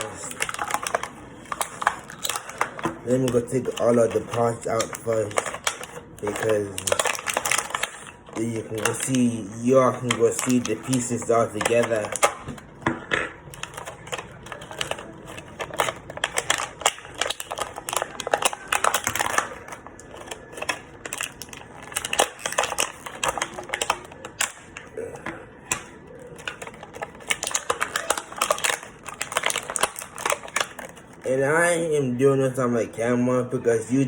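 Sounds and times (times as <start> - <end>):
plastic parts clicking and rattling: 0.0 - 31.2.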